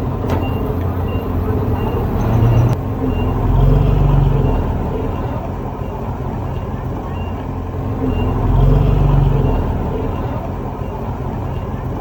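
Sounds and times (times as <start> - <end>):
reversing alarm beeping: 0.0 - 11.8
heavy diesel engine running: 0.0 - 12.0.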